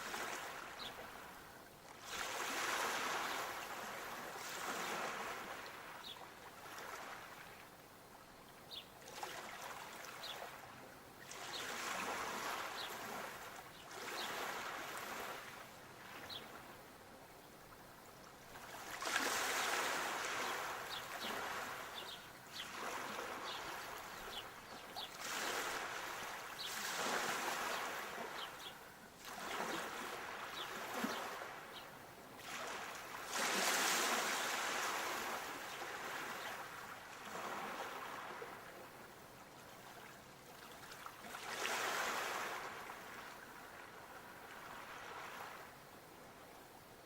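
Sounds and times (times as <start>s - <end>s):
sea waves breaking on shore: 0.0s - 1.4s, 2.0s - 7.6s, 9.0s - 16.7s, 18.4s - 39.0s, 39.6s - 45.8s.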